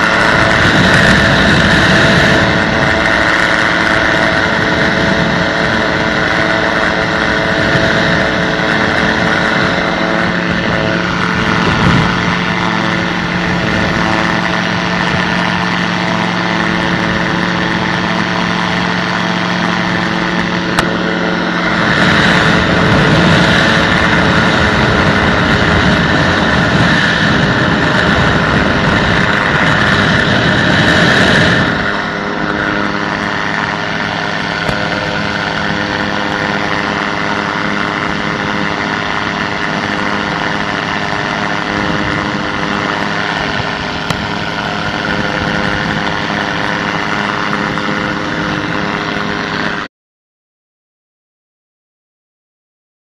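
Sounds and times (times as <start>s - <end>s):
air rushing past microphone: 0.0s - 49.9s
light aircraft engine and propeller: 0.0s - 49.9s.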